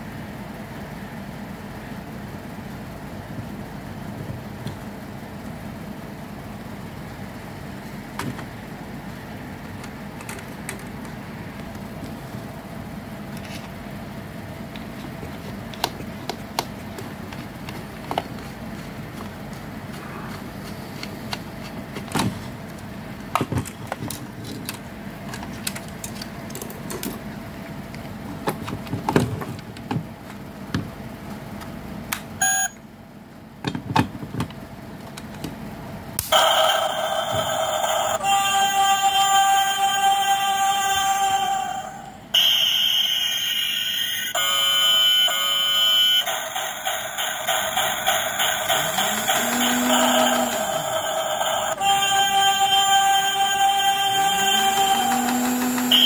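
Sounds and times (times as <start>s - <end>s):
steady hum: 0.0s - 33.6s, 34.6s - 56.0s.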